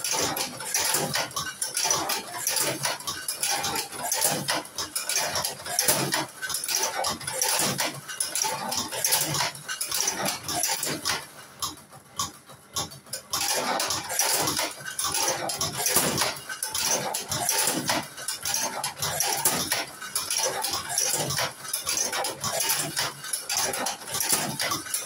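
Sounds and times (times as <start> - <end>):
cigarette machine clicking and clattering: 0.0 - 25.0.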